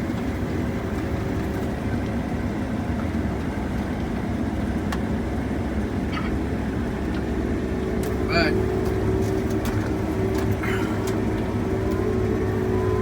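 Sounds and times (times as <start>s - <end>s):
harvesting machinery engine drone: 0.0s - 13.0s.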